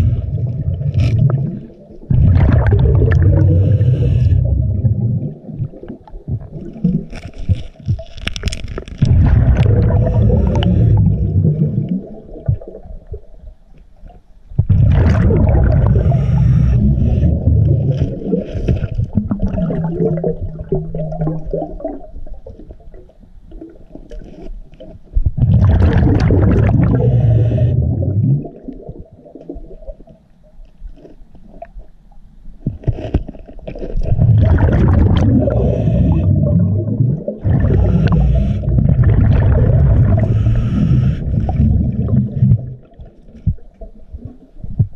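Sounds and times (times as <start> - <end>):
underwater bubbling of exhaled air: 0.0 - 30.3, 33.7 - 44.9.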